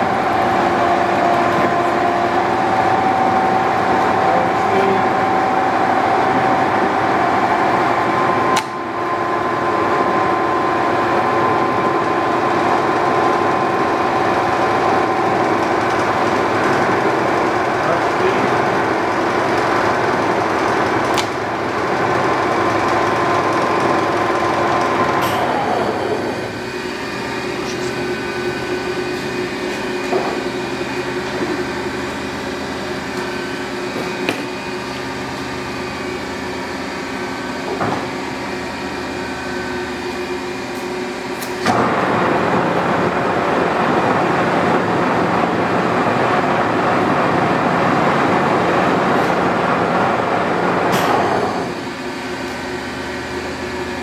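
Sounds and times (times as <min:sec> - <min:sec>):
lathe hum and gear whine: 0:00.0 - 0:54.0.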